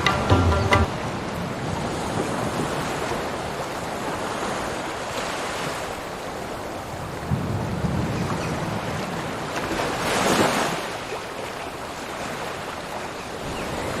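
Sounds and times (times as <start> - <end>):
sea waves breaking on shore: 0.0 - 14.0.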